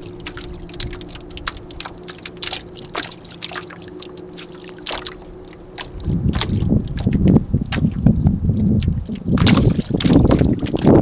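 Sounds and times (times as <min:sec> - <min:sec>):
faint steady hum: 0:00.0 - 0:11.0
water slapping against hull: 0:00.0 - 0:11.0.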